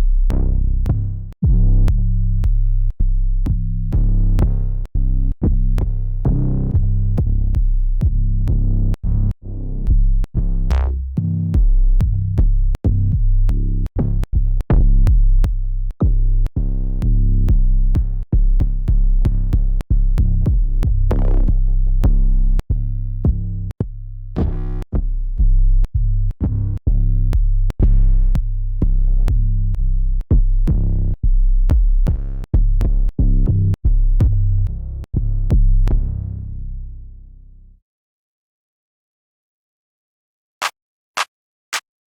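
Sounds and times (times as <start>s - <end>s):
deep bass drum samples: 0.0s - 36.7s.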